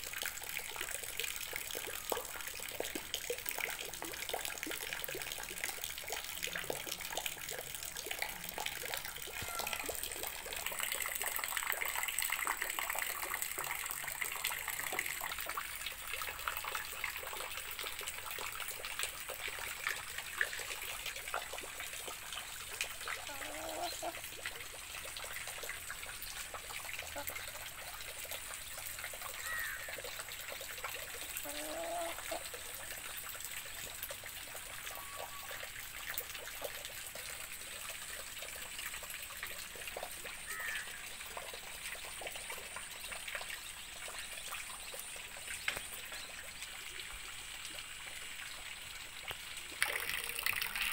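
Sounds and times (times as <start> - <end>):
water trickling and splashing: 0.0 - 50.9.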